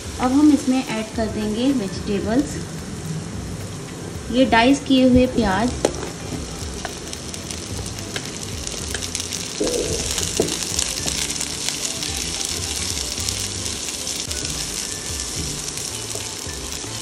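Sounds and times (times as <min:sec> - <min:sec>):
background music: 0:00.0 - 0:17.0
onions sizzling in oil: 0:00.0 - 0:17.0.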